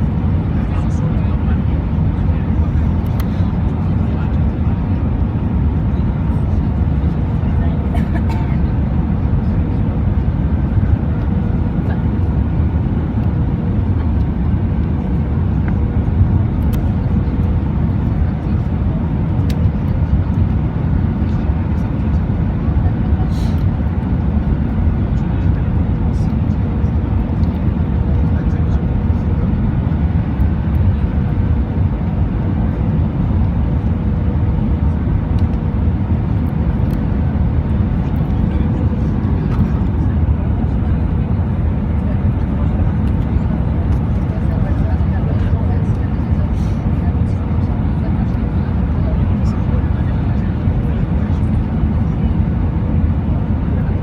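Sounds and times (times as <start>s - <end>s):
airliner cabin rumble: 0.0s - 54.0s
faint engine tones: 0.0s - 54.0s.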